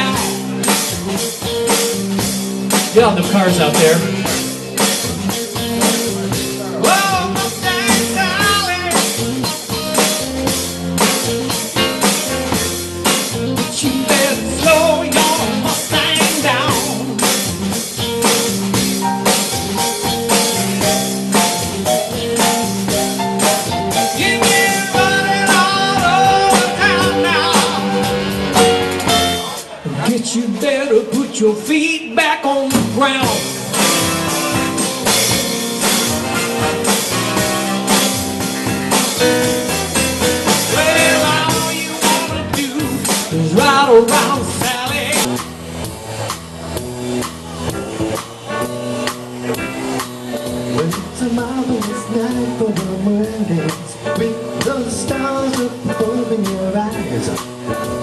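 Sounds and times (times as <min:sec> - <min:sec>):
electric guitar melody: 0:00.0 - 0:29.8, 0:33.1 - 0:58.0
live band playing: 0:00.0 - 0:58.0.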